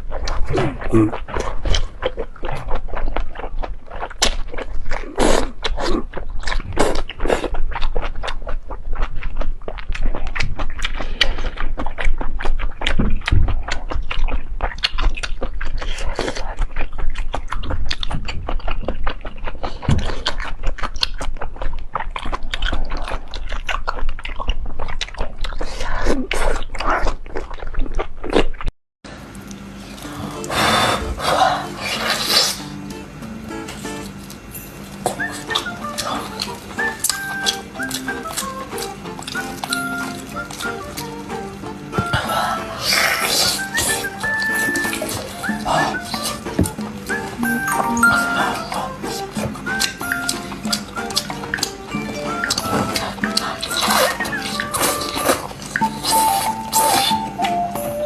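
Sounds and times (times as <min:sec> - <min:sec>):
chewing with wet clicks: 0:00.0 - 0:28.7, 0:32.0 - 0:41.9, 0:43.0 - 0:58.0.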